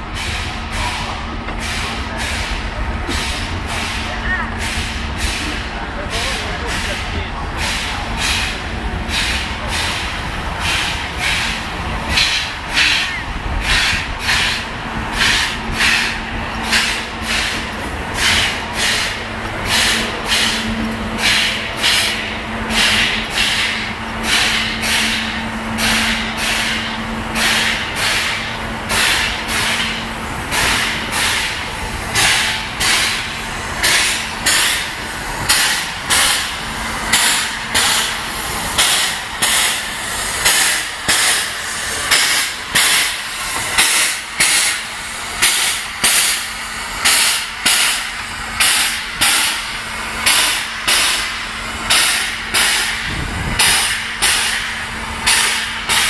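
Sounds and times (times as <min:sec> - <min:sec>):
steam locomotive hissing puffs: 0:00.0 - 0:56.0.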